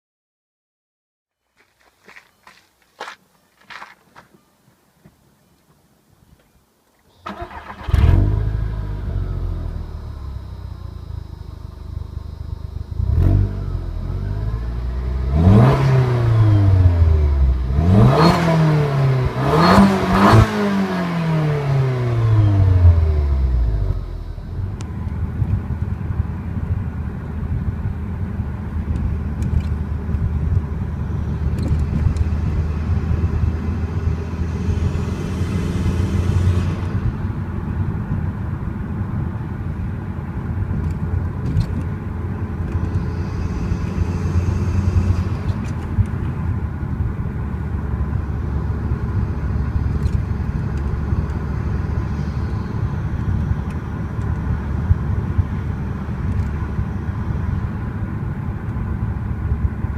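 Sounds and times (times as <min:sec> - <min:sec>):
car engine droning from cabin: 0:07.1 - 0:59.9.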